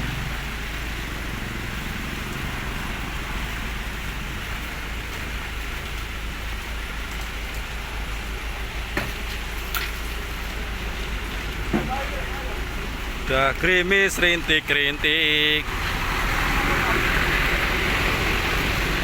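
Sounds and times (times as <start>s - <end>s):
garbage truck engine rumbling: 0.0s - 19.0s
light drizzle hissing: 0.0s - 19.0s.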